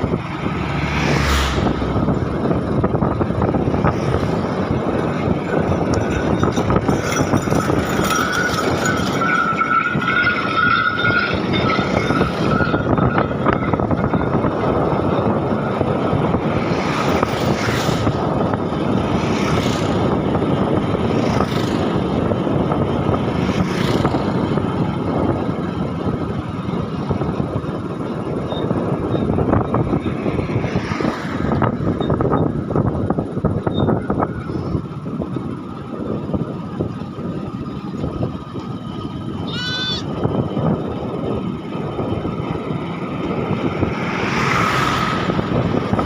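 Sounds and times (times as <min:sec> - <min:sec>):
moving vehicle running noise: 0:00.0 - 0:46.0.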